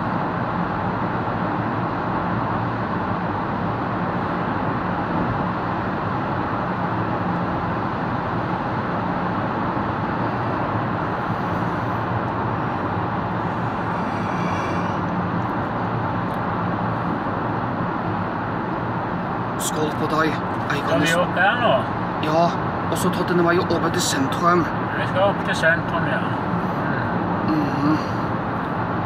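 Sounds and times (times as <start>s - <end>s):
low engine hum: 0.0s - 29.0s
tyre and road noise: 0.0s - 29.0s.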